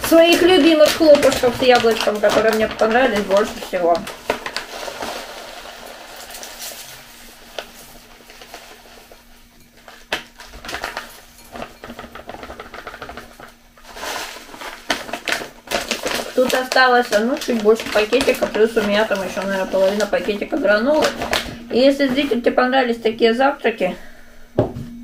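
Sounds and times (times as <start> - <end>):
cereal flakes pattering into glass bowl: 0.0 - 22.4
packet rustling: 0.0 - 23.4.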